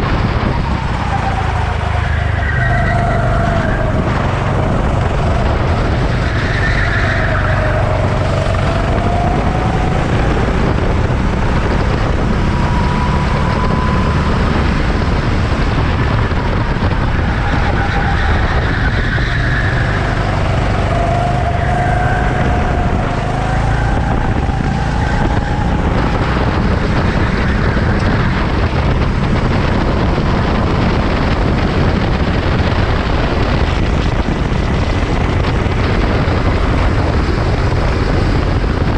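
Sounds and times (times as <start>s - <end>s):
racing motorcycle engines: 0.0s - 38.9s.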